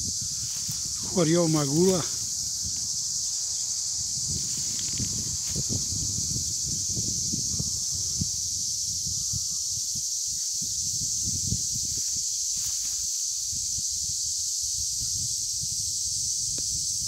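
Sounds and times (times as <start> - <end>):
cicada chorus buzzing: 0.0 - 17.0
wind on microphone: 0.0 - 17.0.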